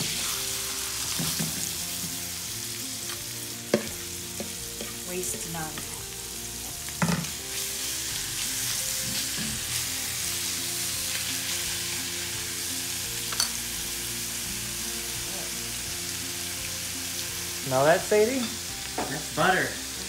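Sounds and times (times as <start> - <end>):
meat sizzling in butter: 0.0 - 20.0.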